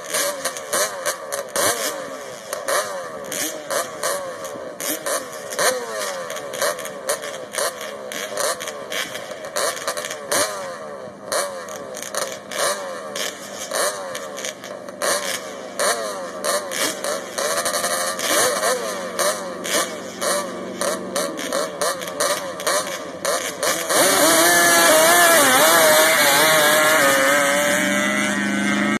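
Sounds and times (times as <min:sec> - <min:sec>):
atv engines revving: 0:00.0 - 0:29.0.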